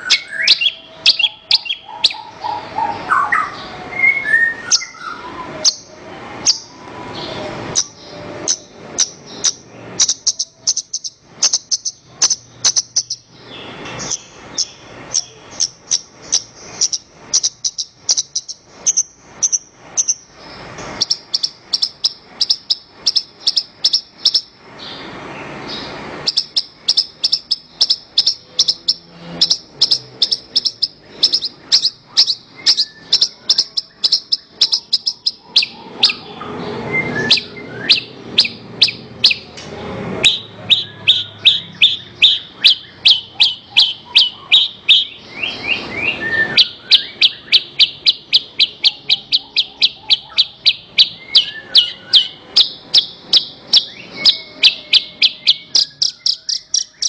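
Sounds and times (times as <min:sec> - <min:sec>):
lark singing sharp chirps: 0:00.0 - 0:57.0.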